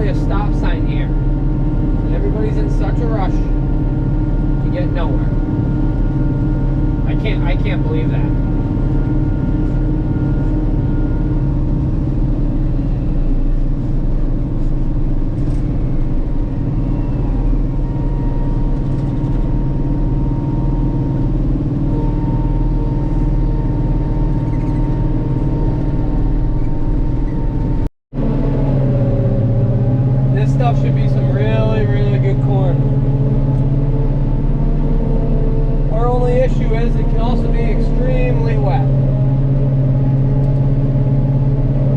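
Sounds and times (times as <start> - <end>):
diesel engine low drone: 0.0 - 41.9.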